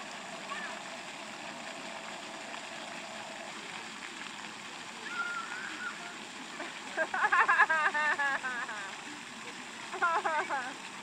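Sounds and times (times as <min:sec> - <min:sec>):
fountain water rushing: 0:00.0 - 0:11.0.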